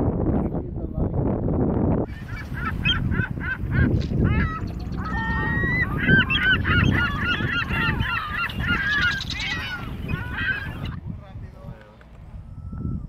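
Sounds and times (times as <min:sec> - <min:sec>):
low rumble: 0:01.0 - 0:13.0
seabirds calling: 0:02.1 - 0:13.0.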